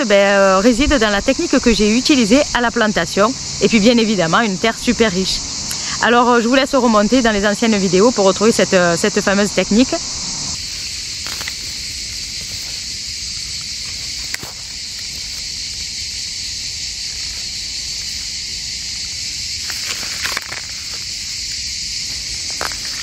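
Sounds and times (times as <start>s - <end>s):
cicadas buzzing: 0.0s - 23.0s.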